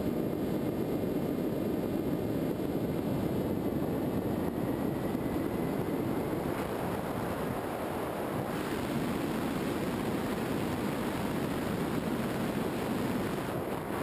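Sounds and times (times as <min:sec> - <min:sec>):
electric motor and propeller: 0:00.0 - 0:14.0
rushing airflow: 0:00.0 - 0:14.0.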